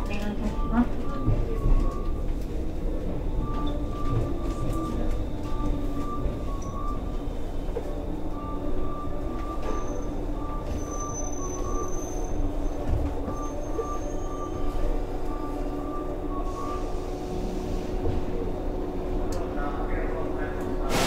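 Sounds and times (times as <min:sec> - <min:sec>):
train motors and wheels rumbling: 0:00.0 - 0:21.0.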